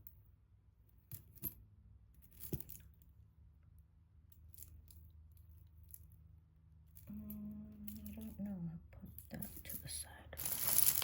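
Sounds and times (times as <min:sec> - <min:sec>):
jewelry clicking and clinking: 0:00.0 - 0:11.0.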